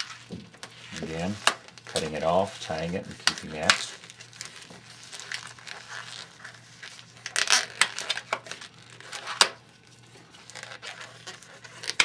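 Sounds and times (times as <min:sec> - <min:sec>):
latex balloon scuffing and crinkling: 0:00.0 - 0:12.0.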